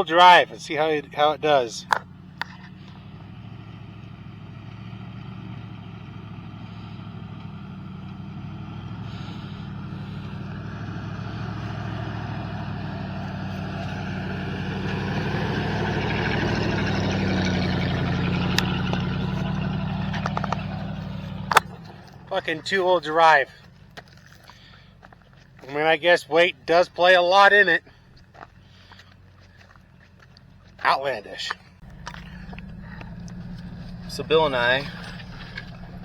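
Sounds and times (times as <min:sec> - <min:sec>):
pickup truck engine straining: 0:00.0 - 0:36.0.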